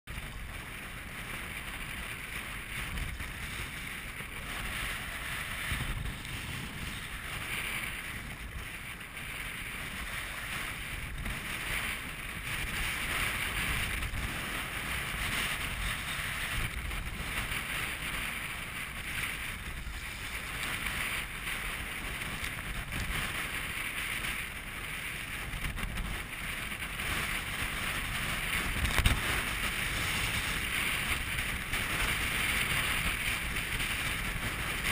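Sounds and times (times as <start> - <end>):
choppy water splashing on hull: 0.1 - 34.9
strong wind buffeting microphone: 0.1 - 34.9.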